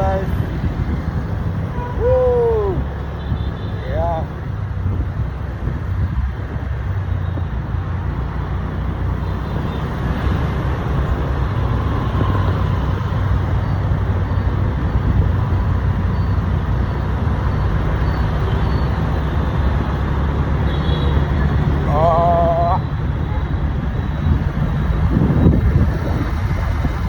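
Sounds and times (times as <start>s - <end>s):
traffic road noise: 0.0s - 27.0s.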